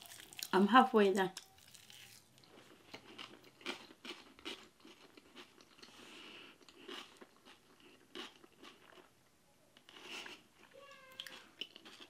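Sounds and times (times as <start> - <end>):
close-miked chewing: 1.4 - 9.1, 9.8 - 12.0.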